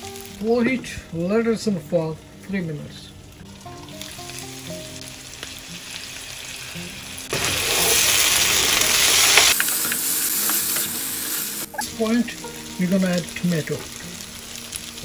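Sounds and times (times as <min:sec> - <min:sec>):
meat sizzling in a pan: 0:00.0 - 0:01.1, 0:03.2 - 0:15.0
soft background music: 0:00.0 - 0:15.0.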